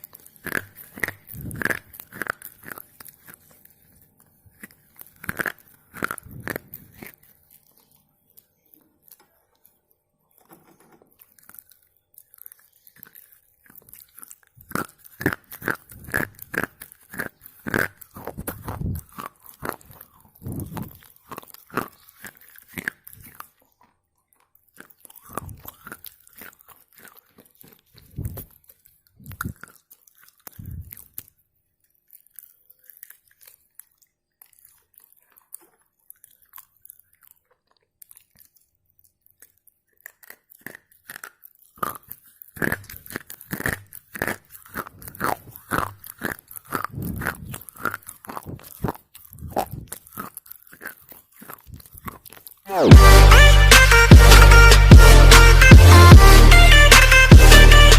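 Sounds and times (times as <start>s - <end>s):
crunching while chewing: 0.0s - 57.9s.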